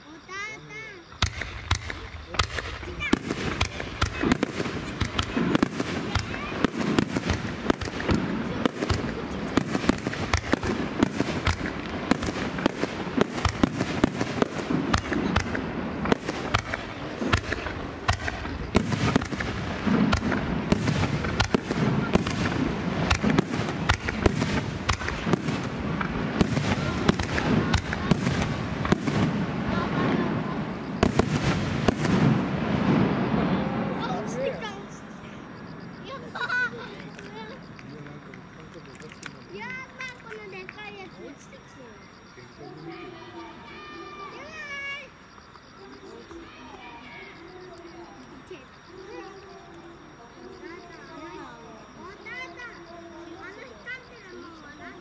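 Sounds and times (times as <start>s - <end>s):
faint crowd voices: 0.0s - 55.0s
fireworks bangs and crackles: 0.4s - 55.0s.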